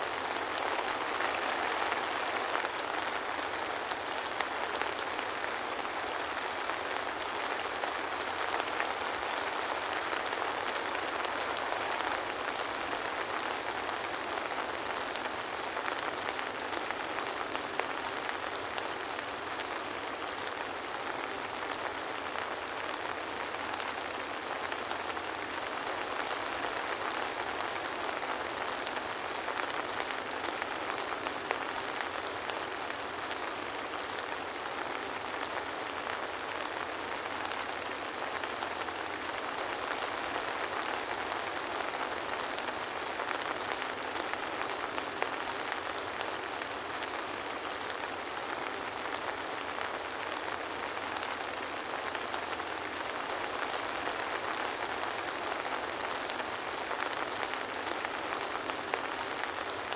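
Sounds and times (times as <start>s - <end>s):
soft rain falling: 0.0s - 59.9s.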